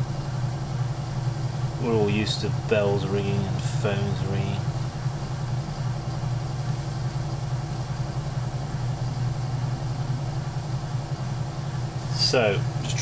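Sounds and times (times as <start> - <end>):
potter's wheel motor hum: 0.0 - 13.0.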